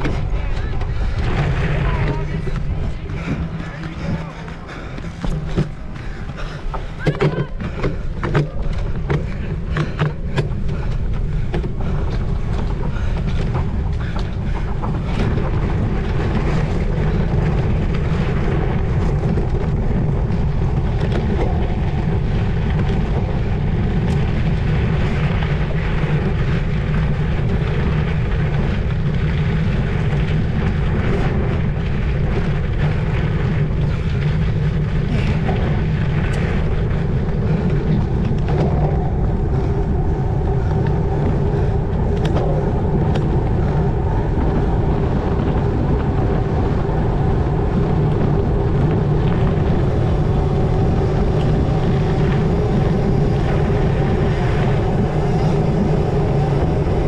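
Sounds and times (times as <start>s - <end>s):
bike knocks and rattles: 0.0s - 57.0s
wind rushing over microphone: 0.0s - 57.0s.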